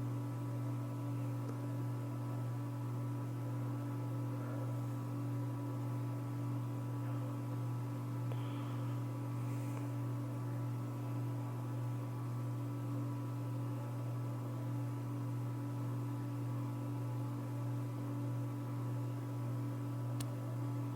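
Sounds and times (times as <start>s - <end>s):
ceiling fan motor humming: 0.0s - 20.9s.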